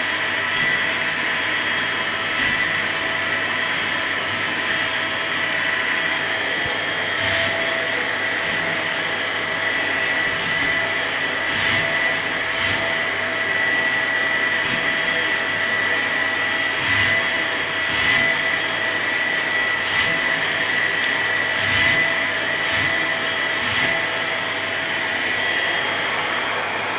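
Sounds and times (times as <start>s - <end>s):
vacuum cleaner motor whine: 0.0s - 26.9s.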